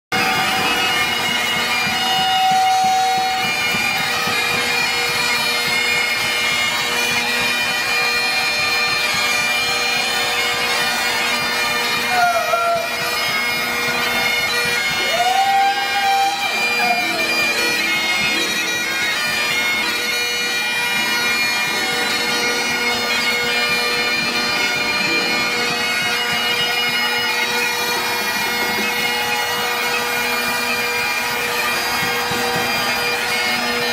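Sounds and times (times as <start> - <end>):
bagpipes droning: 0.1 - 33.9
sliding bagpipe notes: 0.1 - 33.9.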